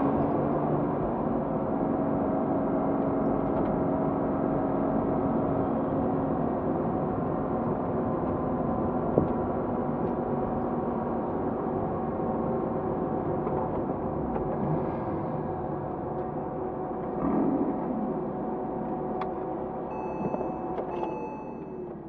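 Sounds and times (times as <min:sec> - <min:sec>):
road noise: 0:00.0 - 0:20.9
car engine running inside cabin: 0:00.0 - 0:22.0.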